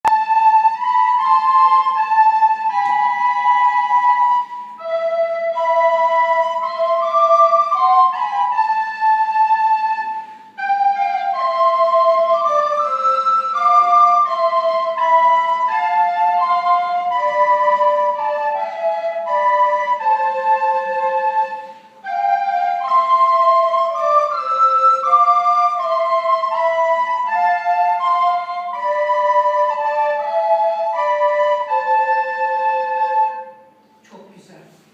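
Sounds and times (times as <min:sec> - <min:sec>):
recorder playing melody: 0:00.0 - 0:34.0.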